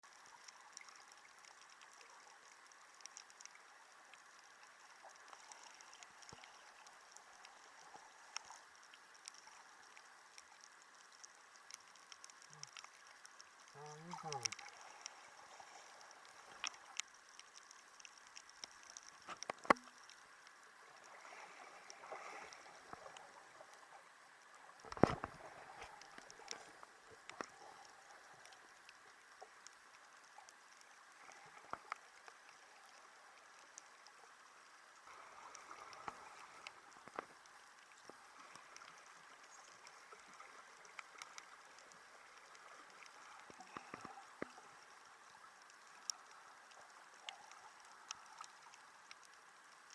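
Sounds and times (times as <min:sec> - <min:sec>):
clicks and crackles: 0:00.0 - 0:49.9
faint underwater ambience: 0:00.0 - 0:49.9.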